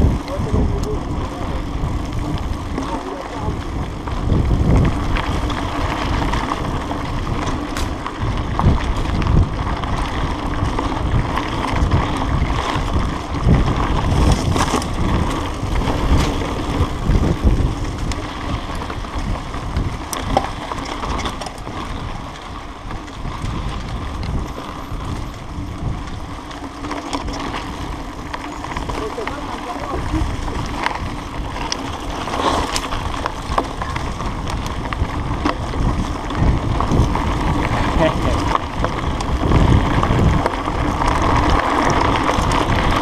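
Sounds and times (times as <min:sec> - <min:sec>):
bike rattling and knocking: 0:00.0 - 0:43.0
bike tyre rumble on dirt: 0:00.0 - 0:43.0
wind buffeting microphone: 0:00.0 - 0:43.0.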